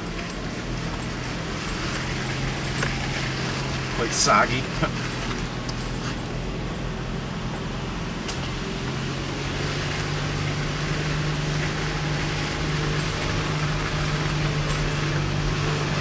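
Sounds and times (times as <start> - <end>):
pickup truck engine running: 0.0 - 16.0
road noise: 0.0 - 16.0.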